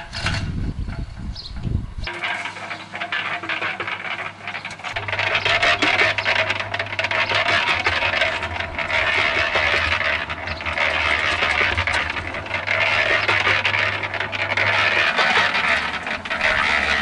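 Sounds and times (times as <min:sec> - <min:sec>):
concrete mixer motor hum: 0:00.0 - 0:17.0
gravel tumbling in mixer drum: 0:02.0 - 0:17.0.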